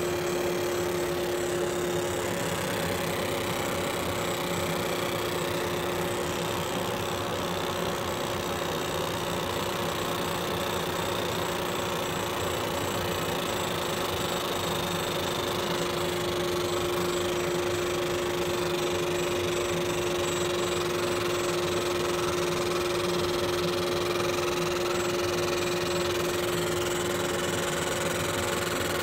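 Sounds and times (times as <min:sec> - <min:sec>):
laser engraver buzzing hum: 0:00.0 - 0:29.0.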